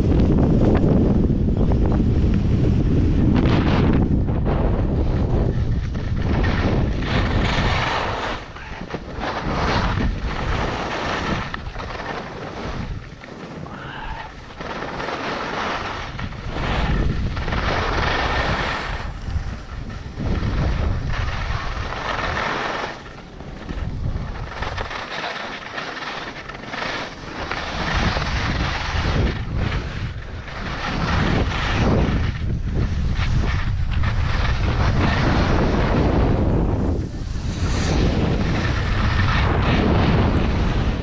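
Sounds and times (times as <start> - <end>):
skis scraping on snow: 0.0 - 41.0
wind buffeting microphone: 0.0 - 41.0.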